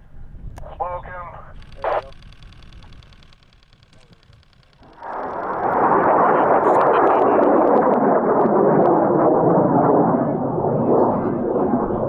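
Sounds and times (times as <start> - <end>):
rocket motor roaring: 1.5 - 12.0.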